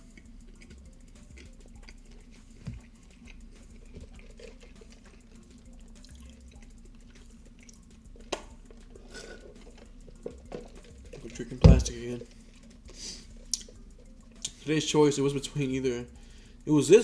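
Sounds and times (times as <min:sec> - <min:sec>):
chewing with wet mouth clicks: 0:00.0 - 0:11.6, 0:12.2 - 0:14.6.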